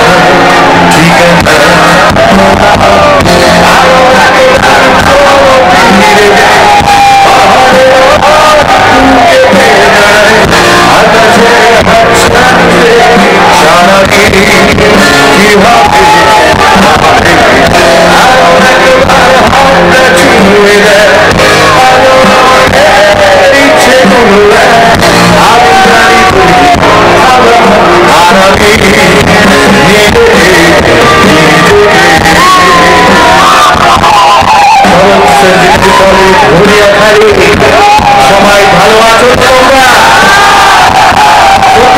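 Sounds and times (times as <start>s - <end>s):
live rock band playing: 0.0s - 41.9s
man singing into microphone: 0.0s - 41.9s.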